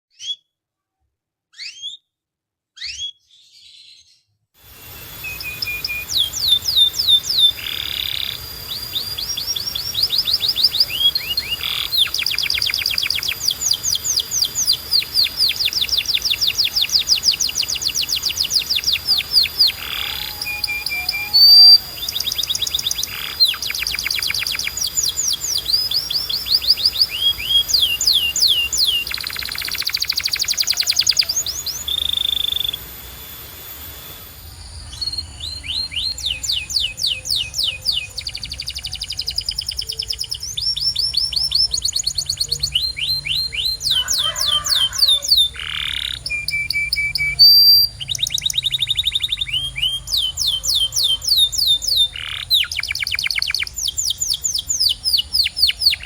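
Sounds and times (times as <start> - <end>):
canary chirping and trilling: 0.1 - 0.5, 1.5 - 2.1, 2.8 - 33.2, 33.9 - 56.0.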